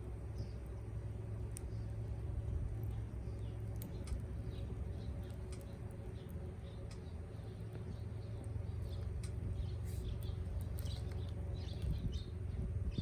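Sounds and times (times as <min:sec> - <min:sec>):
birds chirping: 0:00.2 - 0:02.1, 0:02.7 - 0:13.0.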